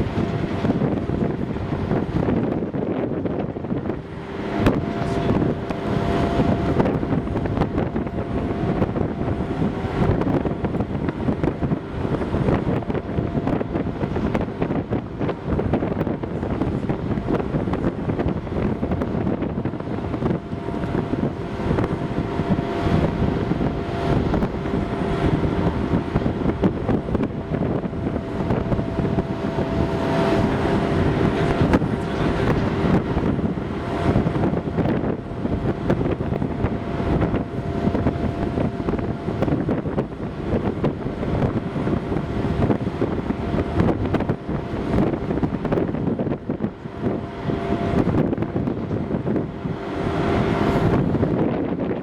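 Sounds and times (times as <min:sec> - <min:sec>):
ferry engines droning: 0:00.0 - 0:52.0
low hum: 0:00.0 - 0:52.0
wind buffeting microphone: 0:00.0 - 0:52.0.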